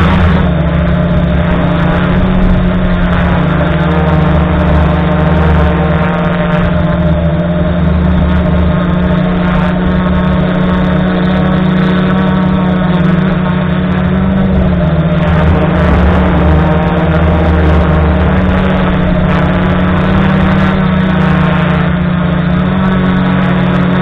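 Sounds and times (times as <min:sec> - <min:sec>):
drone motors buzzing: 0:00.0 - 0:24.0.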